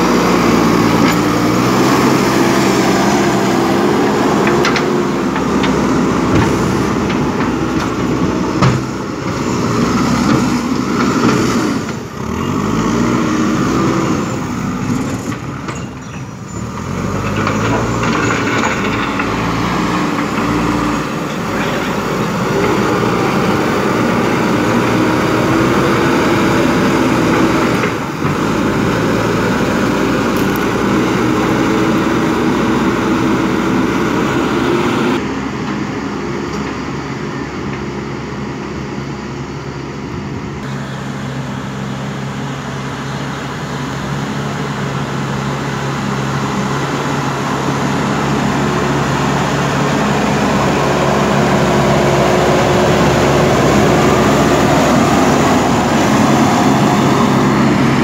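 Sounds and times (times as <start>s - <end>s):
diesel engine running hard: 0.0s - 58.0s.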